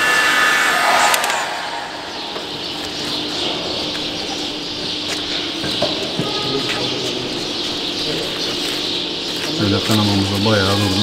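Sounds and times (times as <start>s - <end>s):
faint bird calls: 0.0s - 11.0s
low background hum: 0.0s - 11.0s.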